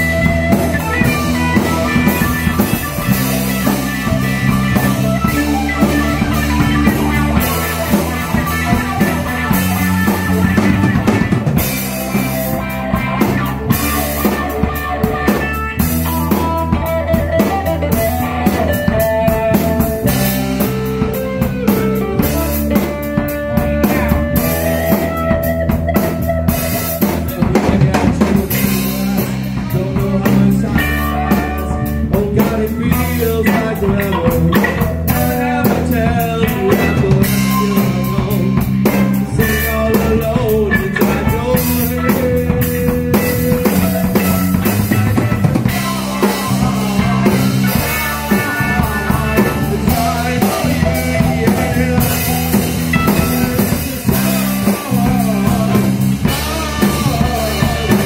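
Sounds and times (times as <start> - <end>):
bass line: 0.0 - 58.0
drum kit: 0.0 - 58.0
guitar: 0.0 - 58.0
live rock band playing: 0.0 - 58.0.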